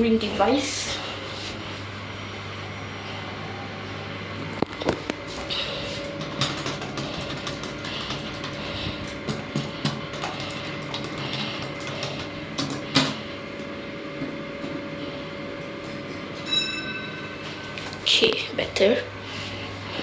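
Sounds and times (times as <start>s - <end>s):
lift car humming: 0.0s - 20.0s.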